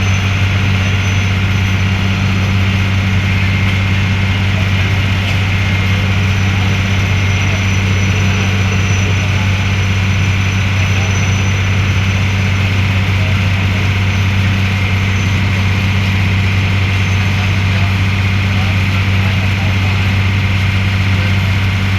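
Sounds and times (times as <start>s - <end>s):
diesel engine droning: 0.0s - 21.9s.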